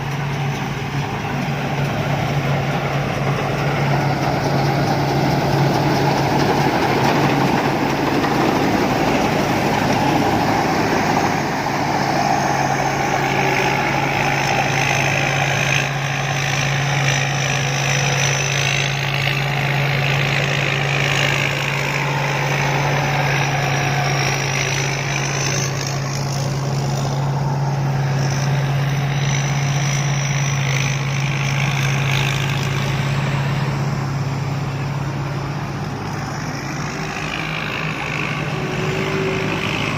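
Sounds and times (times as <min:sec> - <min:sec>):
combine harvester running: 0:00.0 - 0:39.9
rising and falling whine: 0:00.0 - 0:39.9.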